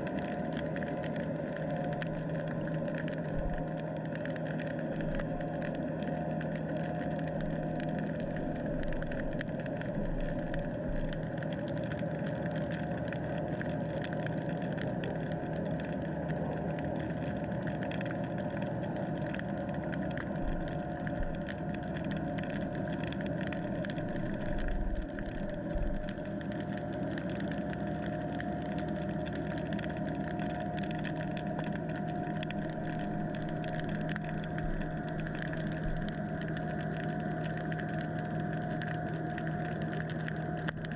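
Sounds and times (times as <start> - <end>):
underwater motor hum: 0.0 - 40.9.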